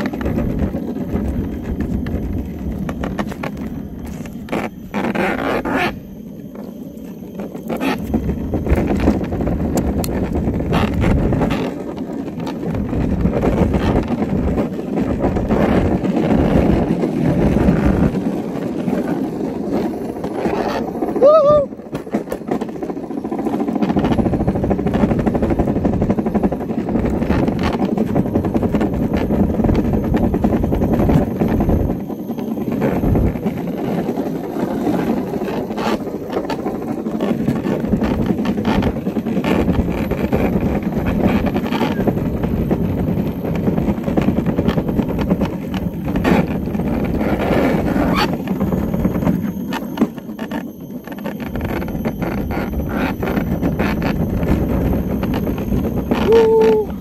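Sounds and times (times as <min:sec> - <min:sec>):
scooter wheels rumbling on asphalt: 0:00.0 - 0:57.0.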